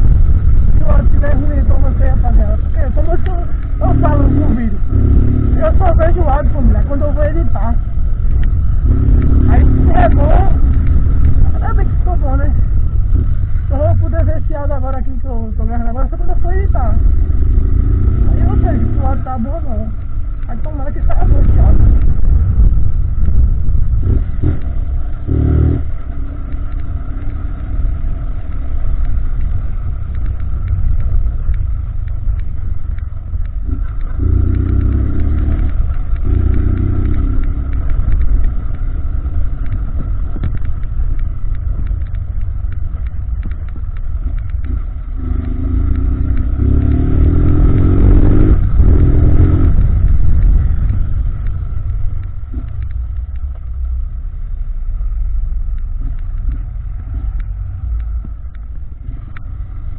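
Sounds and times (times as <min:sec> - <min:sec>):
motorcycle revving: 0:00.0 - 0:59.9
wind rumble on microphone: 0:00.0 - 0:59.9.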